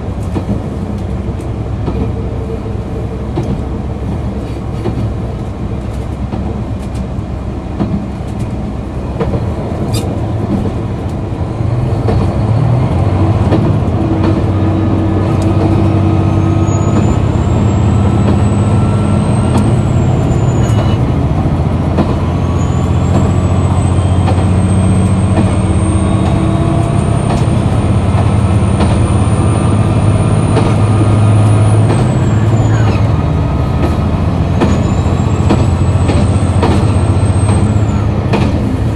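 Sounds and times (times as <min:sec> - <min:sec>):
railcar diesel engine: 0:00.0 - 0:38.9.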